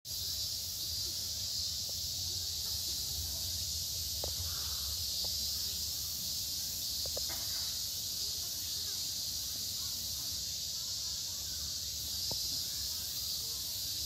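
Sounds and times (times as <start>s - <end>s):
faint chirps: 0.1s - 14.0s
high-pitched hiss: 0.1s - 14.0s.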